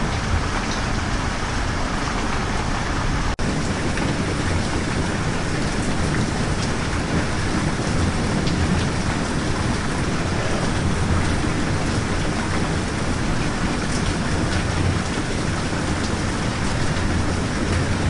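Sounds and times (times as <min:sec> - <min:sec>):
heavy rain hissing: 0:00.0 - 0:18.0
raindrop ticks: 0:03.4 - 0:18.0.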